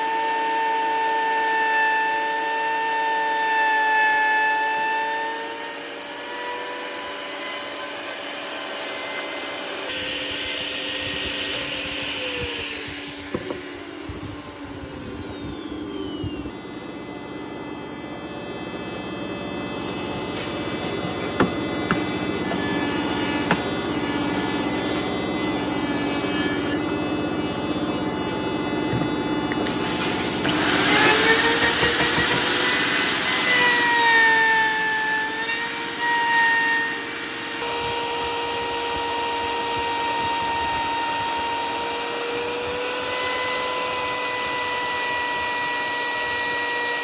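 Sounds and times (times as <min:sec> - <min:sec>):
power tools cutting wood: 0:00.0 - 0:17.5, 0:19.7 - 0:47.0
motor winding down: 0:00.0 - 0:18.1, 0:19.6 - 0:47.0.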